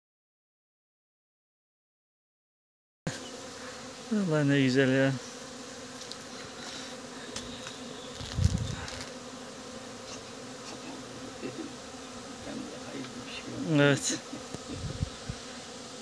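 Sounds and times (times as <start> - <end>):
bee swarm humming: 3.1 - 16.0.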